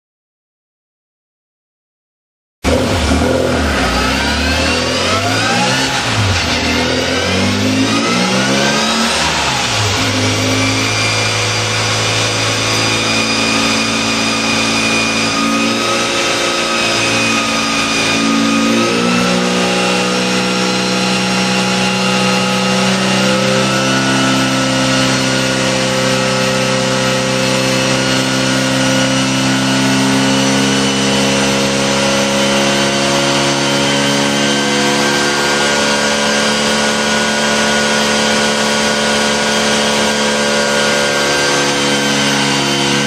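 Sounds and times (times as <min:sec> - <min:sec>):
car engine running: 0:02.7 - 0:43.0.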